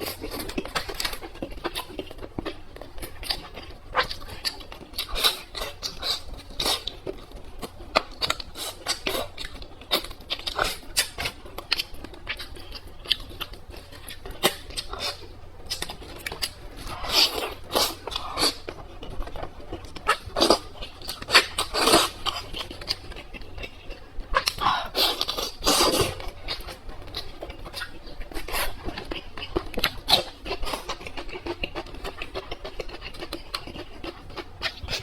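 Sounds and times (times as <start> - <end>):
person chewing and smacking: 0.0 - 35.0.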